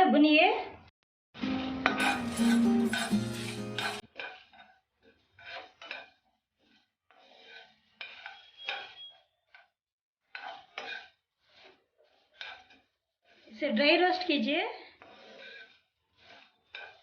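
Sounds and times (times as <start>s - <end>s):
spoon scraping spices in a pan: 1.9s - 17.0s.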